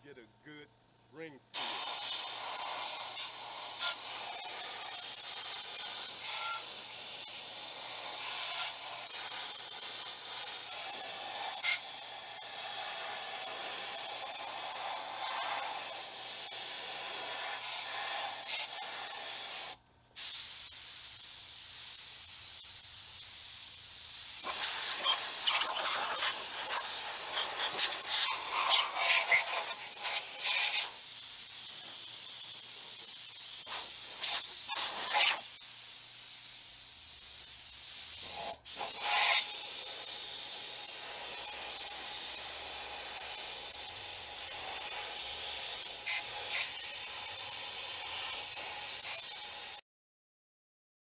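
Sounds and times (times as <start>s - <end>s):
compressed air hissing from blow gun: 1.5s - 49.8s.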